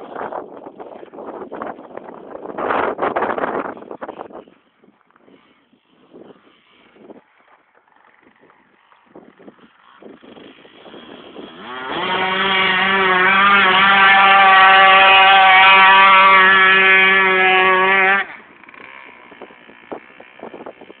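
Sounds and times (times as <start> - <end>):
dirt bike engine at high revs: 0.0 - 21.0.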